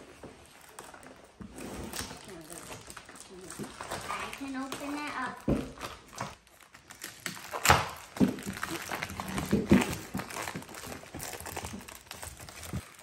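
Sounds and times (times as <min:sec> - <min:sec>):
cardboard ripping and rustling: 0:00.0 - 0:13.0.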